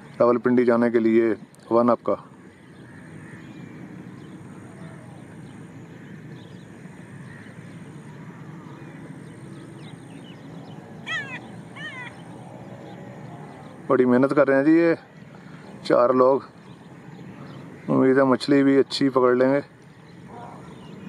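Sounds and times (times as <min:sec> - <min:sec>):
faint twittering: 0:00.0 - 0:21.0
harsh cawing bird calls: 0:00.0 - 0:21.0
low background noise: 0:00.0 - 0:21.0.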